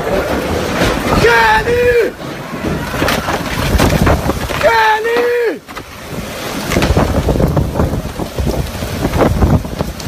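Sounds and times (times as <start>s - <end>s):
storm wind buffeting microphone: 0.0s - 10.0s.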